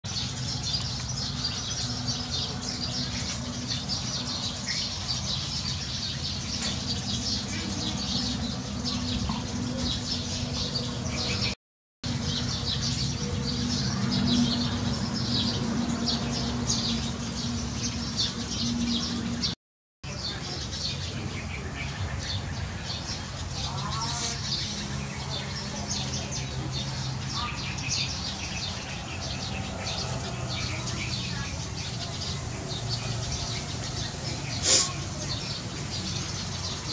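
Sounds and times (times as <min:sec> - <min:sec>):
sparrows chirping: 0:00.1 - 0:36.9.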